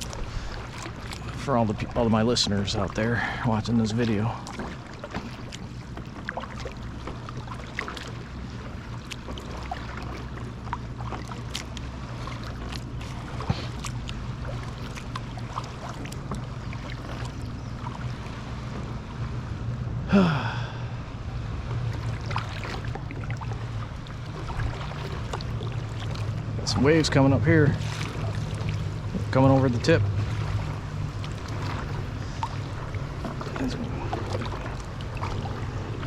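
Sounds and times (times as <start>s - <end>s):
paddle splashing and dripping: 0.0s - 19.2s, 21.6s - 36.0s
steady low rumble: 0.0s - 36.0s
water lapping at a hull: 0.0s - 36.0s.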